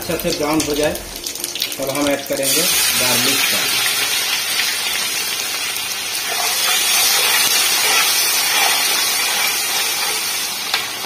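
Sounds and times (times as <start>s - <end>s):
oil sizzling in a metal pot: 0.0s - 11.0s.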